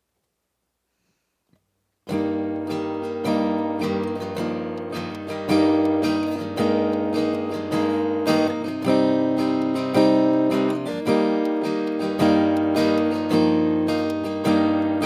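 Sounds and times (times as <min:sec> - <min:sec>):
acoustic guitar strumming: 0:02.1 - 0:15.0.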